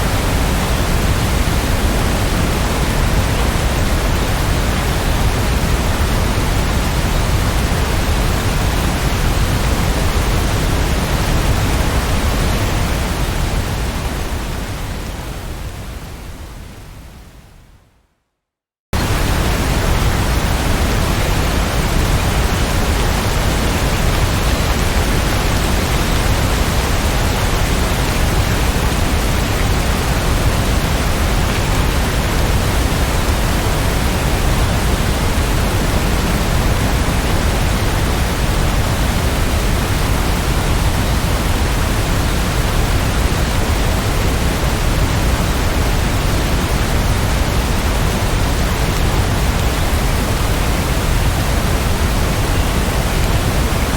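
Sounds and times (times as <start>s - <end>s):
rain falling: 0.0s - 17.2s, 19.0s - 53.9s.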